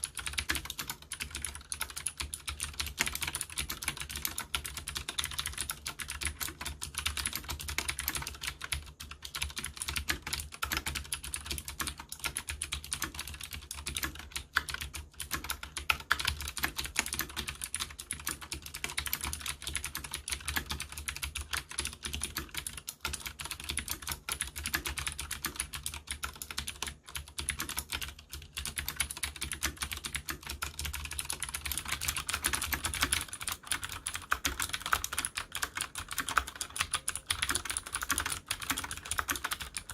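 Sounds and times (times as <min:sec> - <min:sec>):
clicky mechanical keyboard typing: 0:00.0 - 0:39.9.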